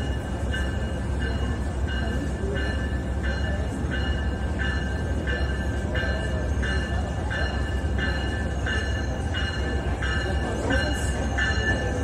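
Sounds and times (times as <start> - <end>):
deep rumble of train: 0.0 - 12.0
locomotive bell ringing: 0.0 - 12.0.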